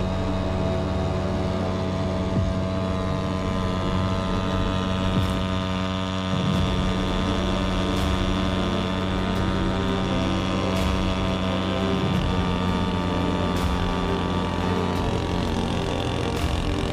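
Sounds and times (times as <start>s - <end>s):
outboard motor running: 0.0s - 16.9s.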